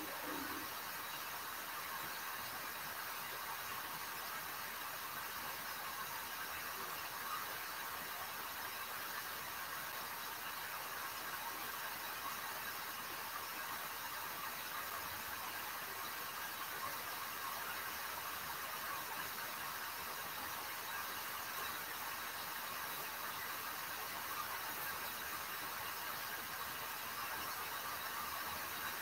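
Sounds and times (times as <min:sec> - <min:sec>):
recording hiss: 0:00.0 - 0:29.0.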